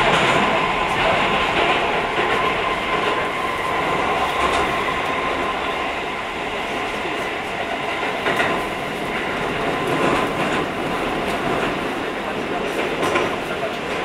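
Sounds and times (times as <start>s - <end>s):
train rolling noise: 0.0s - 14.0s.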